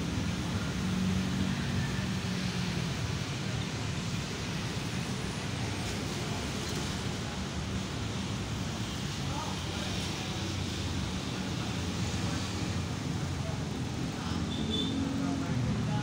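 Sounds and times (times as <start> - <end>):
street and traffic noise: 0.0 - 16.0.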